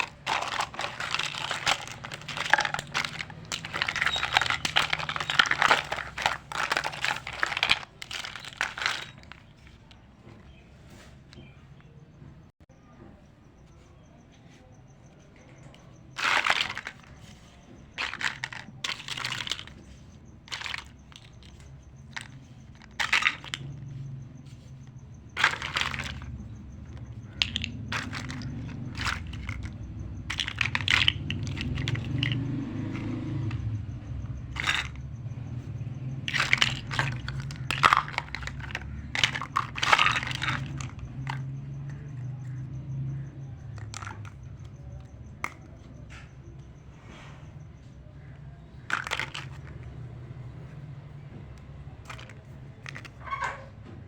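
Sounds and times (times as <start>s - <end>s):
toy packaging crinkling and clicking: 0.0s - 11.5s, 16.1s - 35.0s, 36.2s - 45.9s, 48.2s - 50.8s, 51.5s - 53.5s.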